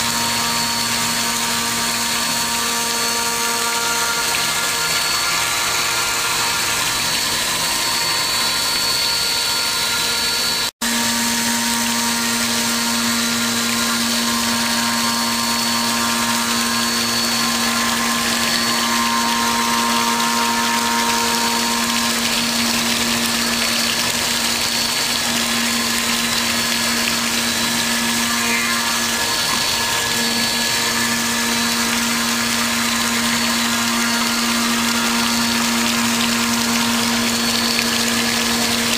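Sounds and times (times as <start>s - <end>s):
machine whine over hiss: 0.0s - 38.9s
steady machine hum: 0.0s - 38.9s.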